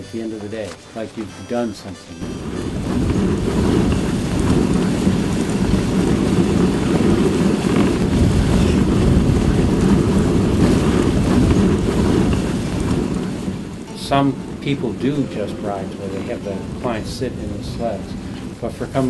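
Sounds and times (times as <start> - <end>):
wind rushing over microphone: 2.2 - 19.0.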